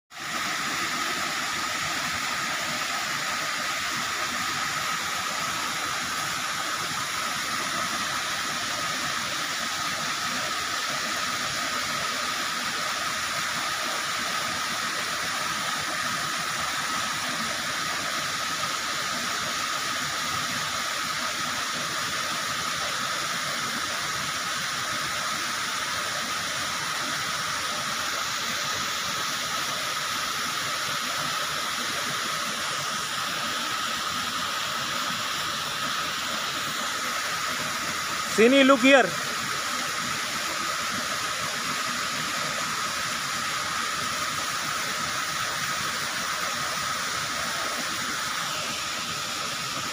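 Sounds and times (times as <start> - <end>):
waterfall rushing over rock: 0.1 - 49.9.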